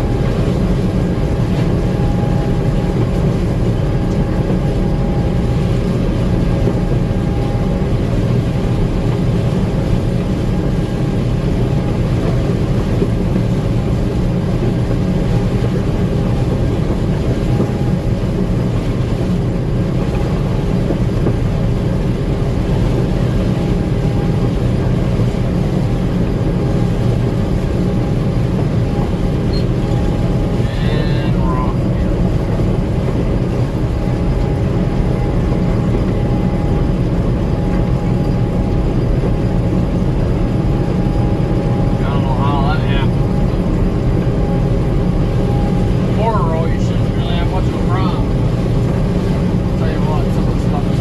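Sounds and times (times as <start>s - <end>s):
combine harvester engine rumble: 0.0s - 51.0s
faint steady machine whine: 0.0s - 51.0s.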